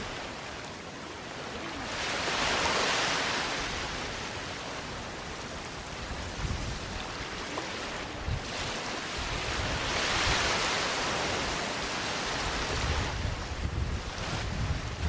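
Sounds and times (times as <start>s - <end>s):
ocean waves on a beach: 0.0s - 15.0s.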